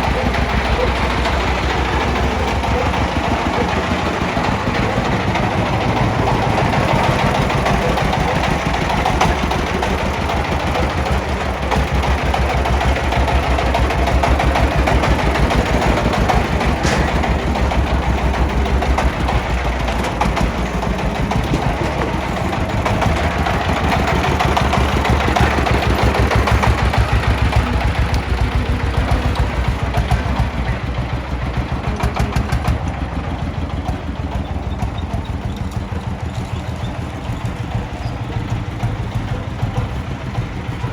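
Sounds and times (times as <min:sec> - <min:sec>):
diesel engines chugging: 0:00.0 - 0:40.9.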